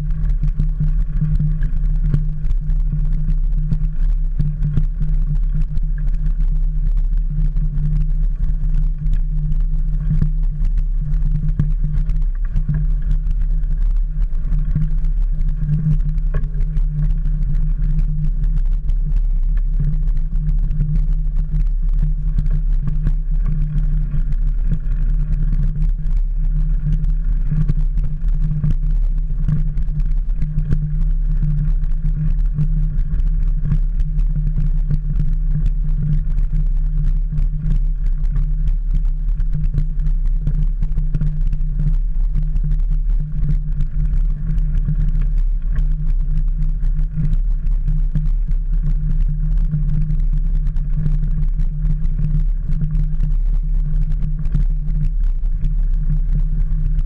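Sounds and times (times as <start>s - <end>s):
bike tyres rumbling on gravel: 0.0s - 57.0s.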